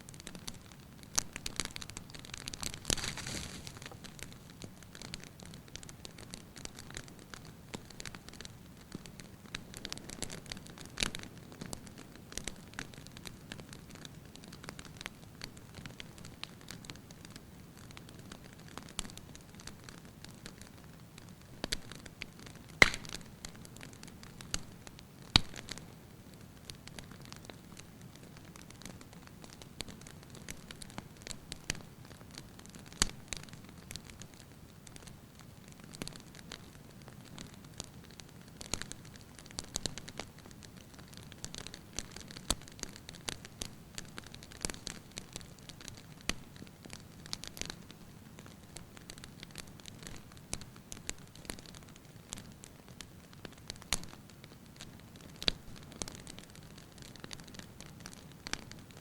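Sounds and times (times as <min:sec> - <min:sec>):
firewood crackling and popping: 0:00.0 - 0:59.0
soft hiss of flames: 0:00.0 - 0:59.0.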